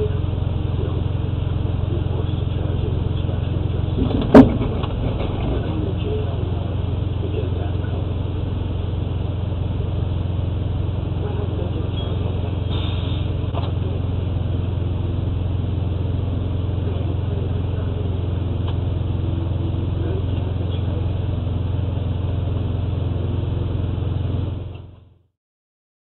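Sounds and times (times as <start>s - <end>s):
diesel engine idling: 0.0s - 25.1s.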